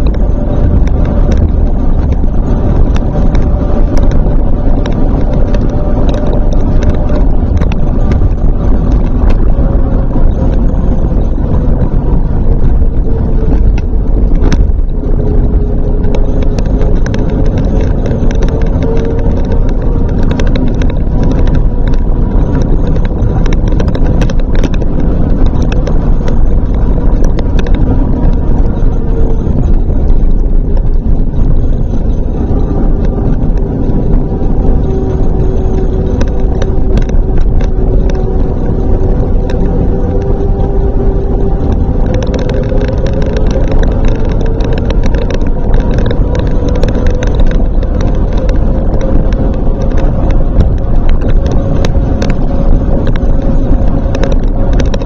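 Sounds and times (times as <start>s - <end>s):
tyre road and wind rumble: 0.0s - 55.0s.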